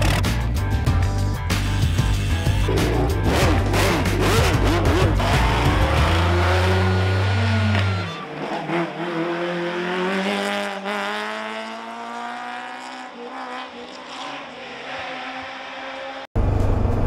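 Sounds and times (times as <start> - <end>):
racing car engine accelerating: 2.6 - 17.0.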